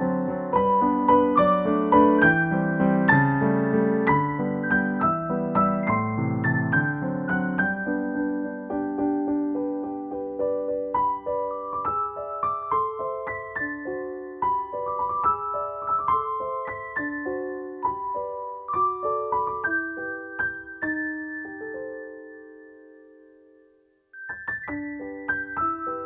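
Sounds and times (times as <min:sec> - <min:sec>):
gentle electric piano melody: 0:00.0 - 0:26.0.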